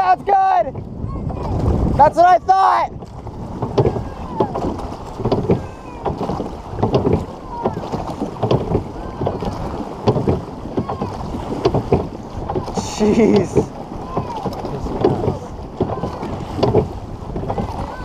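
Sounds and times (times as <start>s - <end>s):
oar blades splashing water: 0.0s - 18.0s
wind on microphone: 0.0s - 18.0s
oars knocking in oarlocks: 3.0s - 18.0s.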